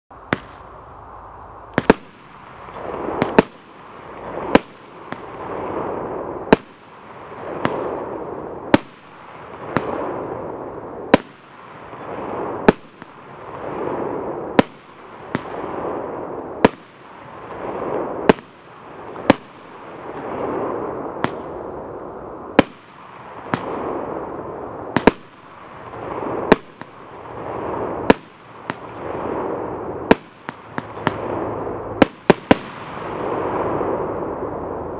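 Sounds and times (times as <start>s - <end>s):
firework burst rushing: 0.1s - 34.9s
firework shots: 0.1s - 34.9s.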